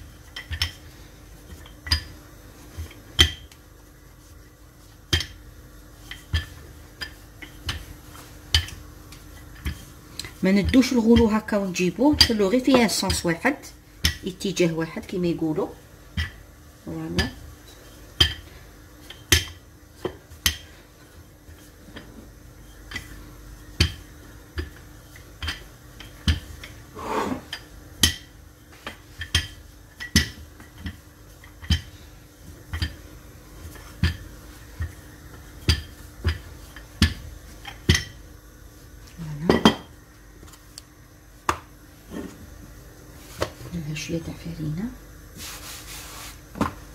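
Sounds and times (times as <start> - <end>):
rolling pin rolling dough: 0.0 - 46.9.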